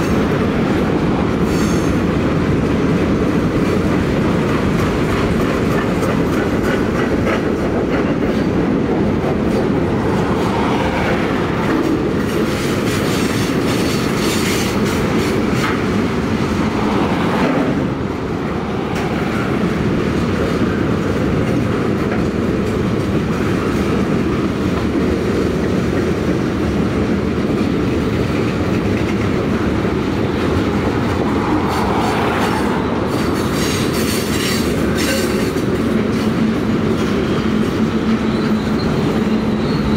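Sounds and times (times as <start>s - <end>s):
freight train wheels rumbling: 0.0s - 39.9s
wheels clacking over rail joints: 0.0s - 39.9s.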